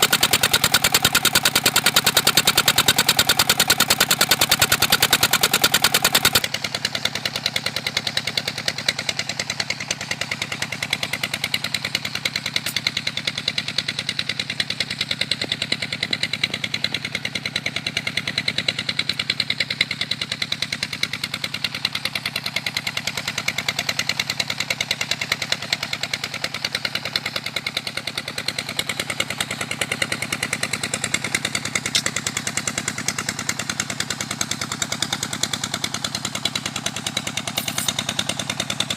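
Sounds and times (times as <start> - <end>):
pump engine running: 0.0 - 38.9.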